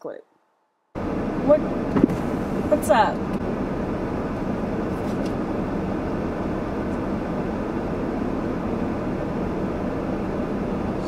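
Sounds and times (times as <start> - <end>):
traffic rumble inside car: 1.0 - 11.0.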